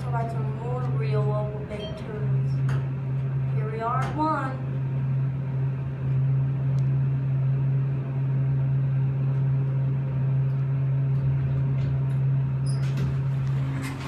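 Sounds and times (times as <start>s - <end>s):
elevator machinery humming: 0.0s - 14.0s.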